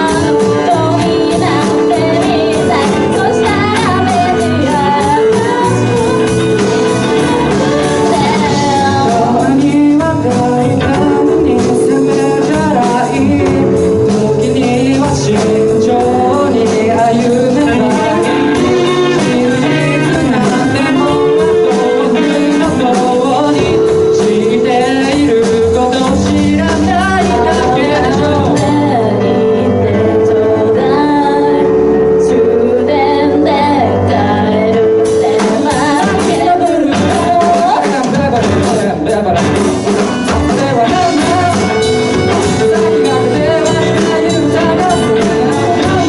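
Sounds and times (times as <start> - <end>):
guitar: 0.0 - 46.0
keyboard: 0.0 - 46.0
person singing: 0.0 - 46.0.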